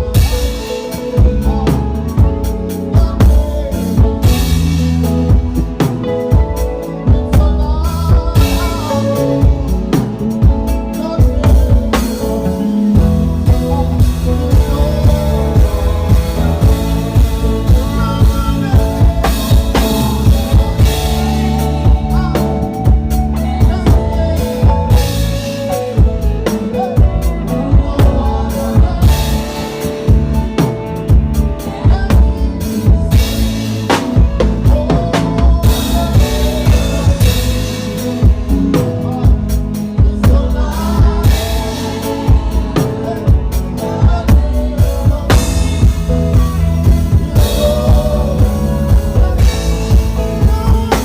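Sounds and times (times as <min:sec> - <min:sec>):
drum kit playing: 0:00.0 - 0:51.0
steady bass line: 0:00.0 - 0:51.0.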